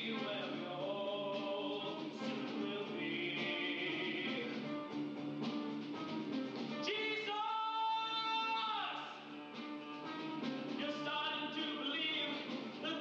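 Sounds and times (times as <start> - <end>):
band accompaniment: 0.0 - 13.0
rock opera singing: 0.0 - 13.0.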